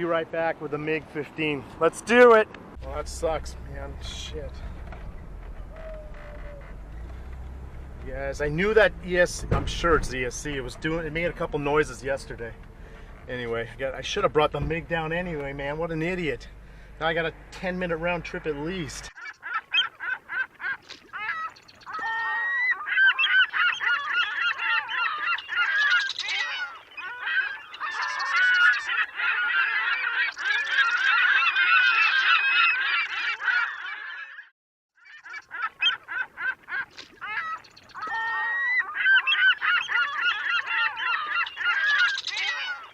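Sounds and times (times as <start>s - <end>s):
geese honking: 2.8s - 34.5s, 35.2s - 42.9s.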